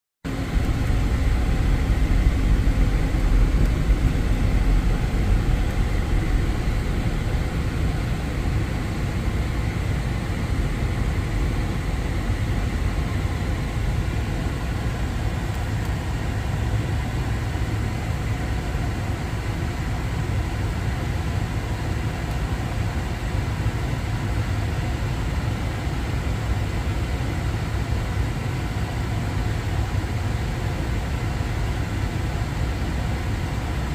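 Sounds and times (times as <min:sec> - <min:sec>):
engines idling rumble: 0:00.3 - 0:33.9.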